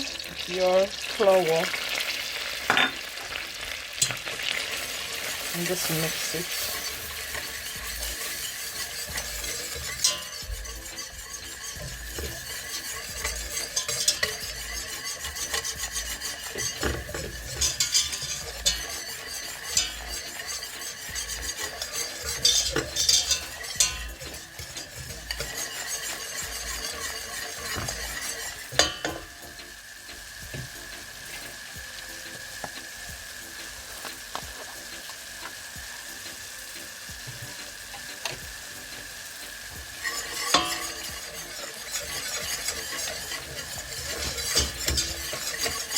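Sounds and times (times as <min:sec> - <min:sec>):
utensil scraping pan: 0:00.0 - 0:29.5, 0:37.2 - 0:38.8, 0:39.5 - 0:45.9
gentle sizzle: 0:00.0 - 0:45.9.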